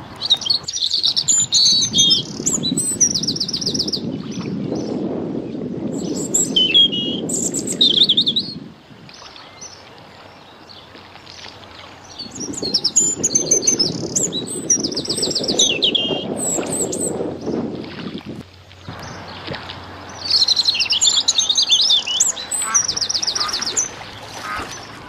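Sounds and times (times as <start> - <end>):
birds chirping and trilling: 0.0 - 5.0, 5.9 - 17.6, 18.9 - 25.0.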